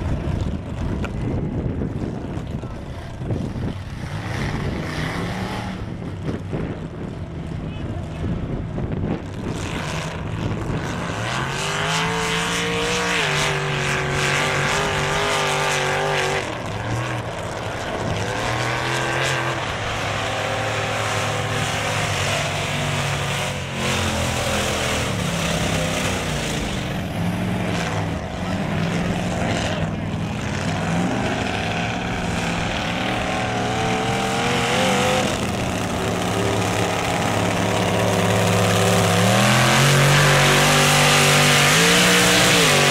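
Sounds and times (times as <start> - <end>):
truck engines revving hard: 0.0 - 42.9.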